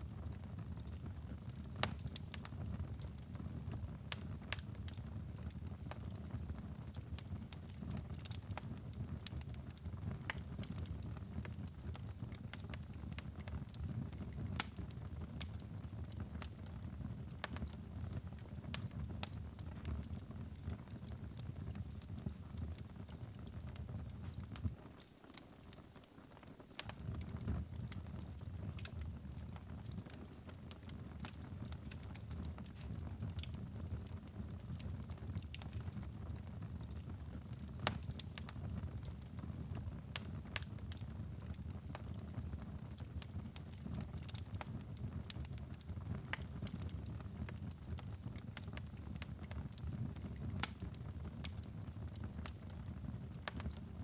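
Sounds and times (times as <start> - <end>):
low rumble of flames: 0.0 - 24.8, 26.7 - 54.0
fire crackling and popping: 0.0 - 54.0.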